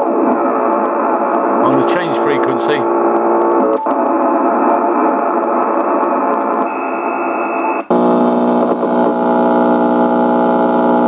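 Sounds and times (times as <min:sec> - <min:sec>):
radio buzzing interference: 0:00.0 - 0:11.0.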